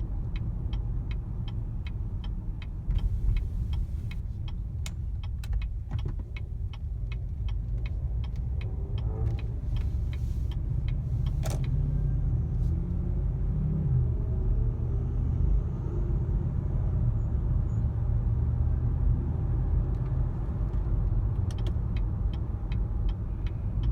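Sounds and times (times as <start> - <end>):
engine and road rumble: 0.0 - 23.9.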